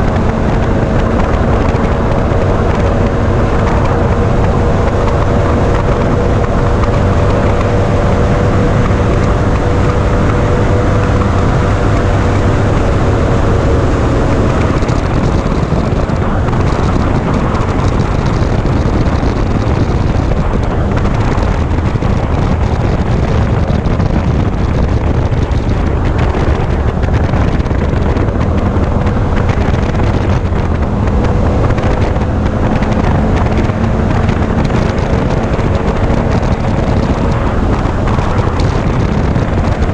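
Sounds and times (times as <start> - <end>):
hull rushing over water: 0.0 - 39.9
outboard motor running: 0.0 - 39.9
wind noise on microphone: 0.0 - 39.9.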